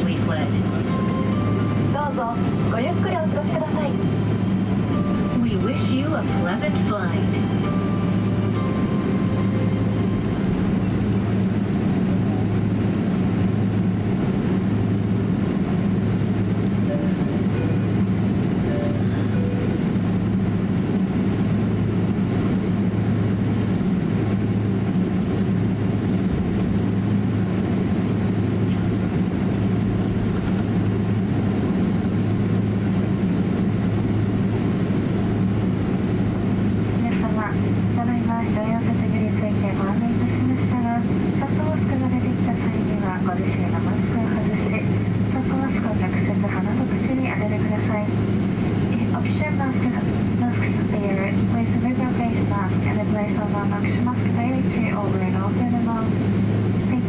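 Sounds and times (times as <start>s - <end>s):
aircraft cabin rumble: 0.0s - 57.0s
deep pulsing hum: 0.0s - 57.0s.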